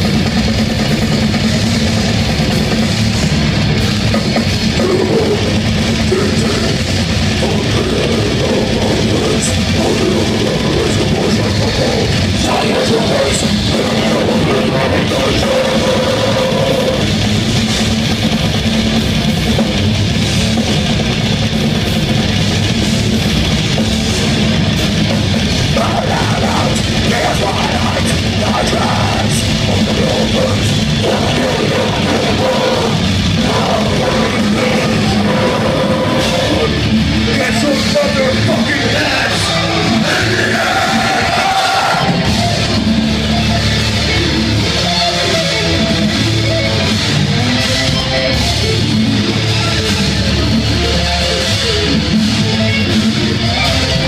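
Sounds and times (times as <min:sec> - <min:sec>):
metal band playing live: 0:00.0 - 0:54.0.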